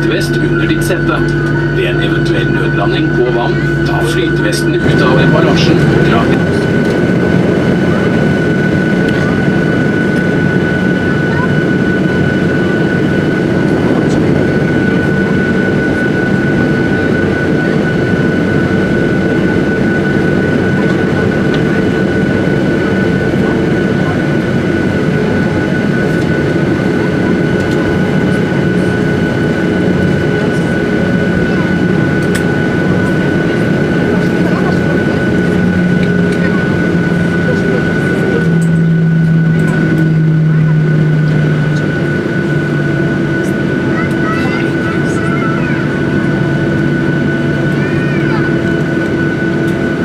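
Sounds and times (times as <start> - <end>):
jet engine and cabin air noise: 0.0 - 50.0.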